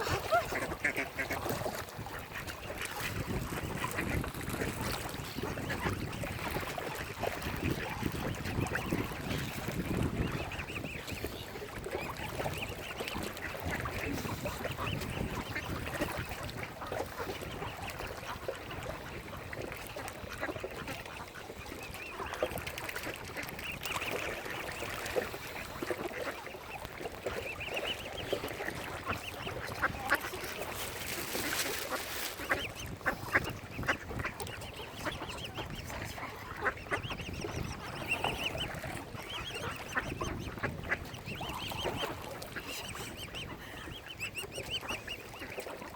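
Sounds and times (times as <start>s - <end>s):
waterfowl honking: 0.0s - 19.4s, 20.0s - 45.9s.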